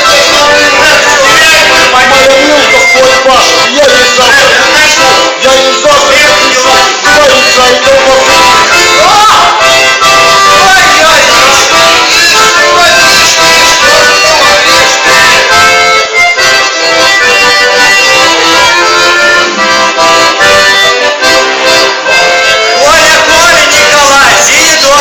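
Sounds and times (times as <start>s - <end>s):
accordion playing chords: 0.0s - 25.0s.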